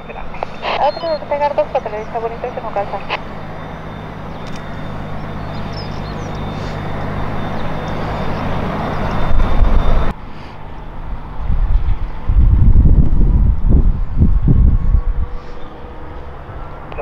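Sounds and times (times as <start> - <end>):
jet engines rumbling with whine: 0.0 - 17.0
outdoor noise: 0.0 - 17.0.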